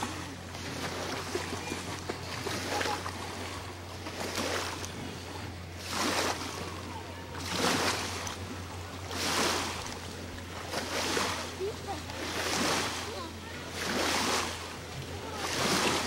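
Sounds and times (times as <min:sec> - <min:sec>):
low steady hum: 0:00.0 - 0:16.0
water splashing and sloshing: 0:00.0 - 0:16.0.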